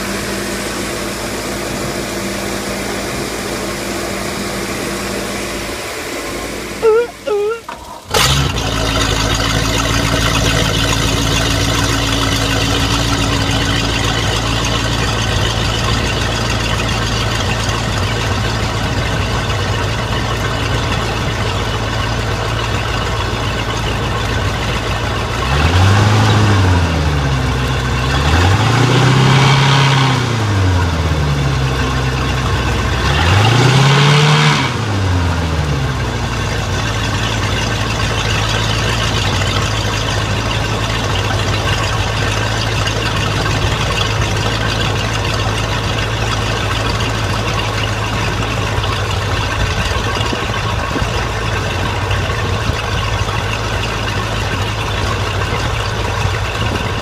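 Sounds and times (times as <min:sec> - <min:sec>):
boat engine idling and revving: 0:00.0 - 0:57.0.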